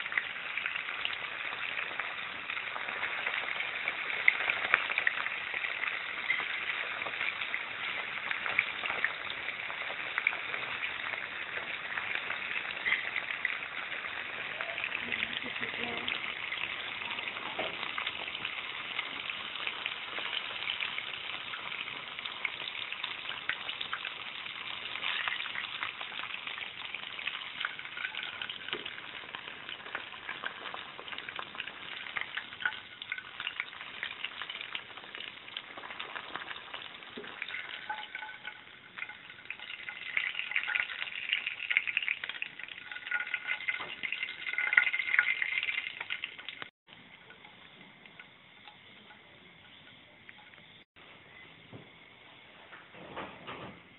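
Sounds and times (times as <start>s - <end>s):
deep-frying sizzle in hot oil: 0.0s - 52.2s.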